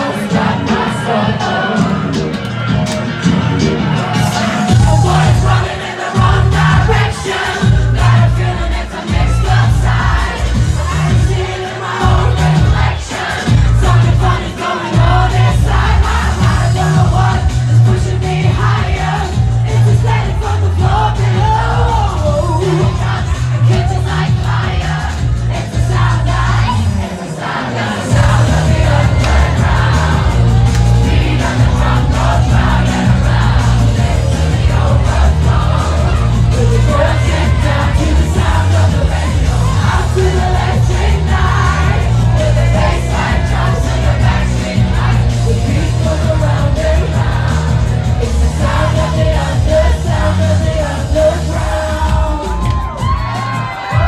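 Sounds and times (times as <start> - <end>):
heavy pulsing bass line: 0.0 - 27.0, 28.0 - 54.0
crowd noise: 0.0 - 54.0
live pop music: 0.0 - 54.0
person singing: 3.6 - 54.0.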